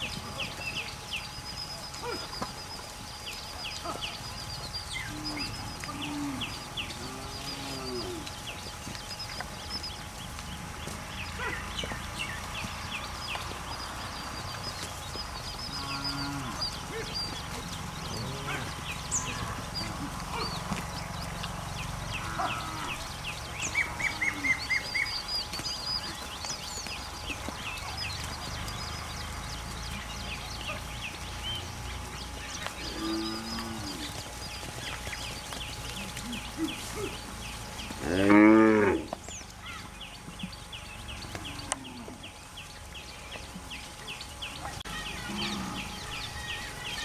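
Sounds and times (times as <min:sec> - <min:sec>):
birds chirping: 0:00.0 - 0:47.0
farm animals calling: 0:00.0 - 0:47.0.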